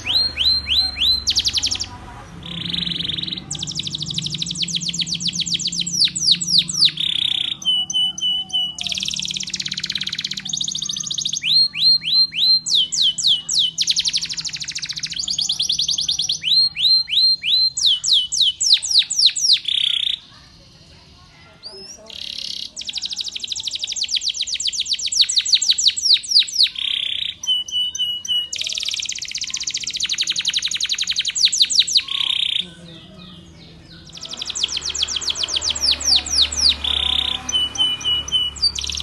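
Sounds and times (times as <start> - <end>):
canary singing: 0.0 - 39.0.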